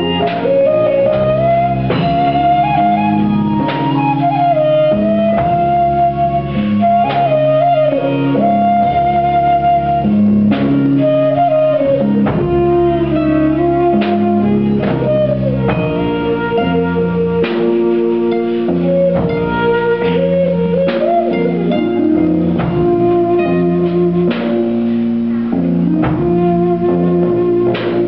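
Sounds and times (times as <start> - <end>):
band playing guitar bass and drums: 0.0 - 28.0
flute melody with pitch bends: 0.0 - 28.0.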